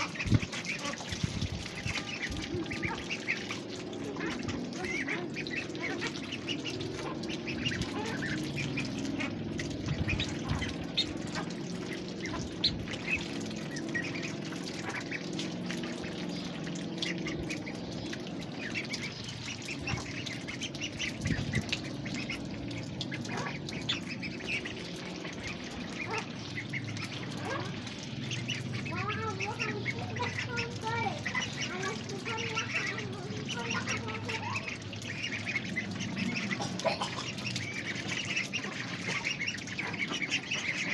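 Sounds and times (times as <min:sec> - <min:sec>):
ducks quacking: 0:00.0 - 0:40.9.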